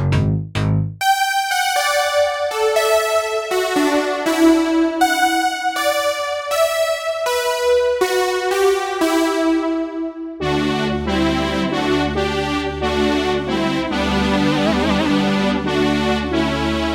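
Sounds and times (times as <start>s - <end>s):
electric piano synth chords: 1.0s - 16.9s.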